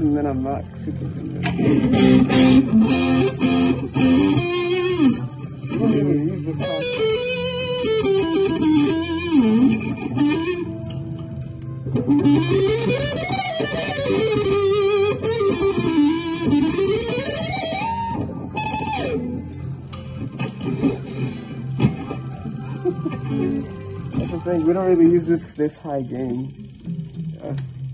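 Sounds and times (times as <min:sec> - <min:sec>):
electric guitar lead with bends: 0:00.0 - 0:25.1.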